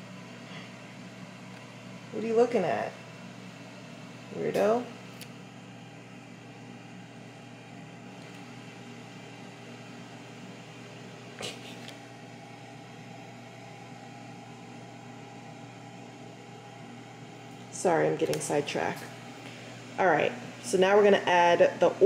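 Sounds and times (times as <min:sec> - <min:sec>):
air fryer fan hum: 0:00.0 - 0:22.0.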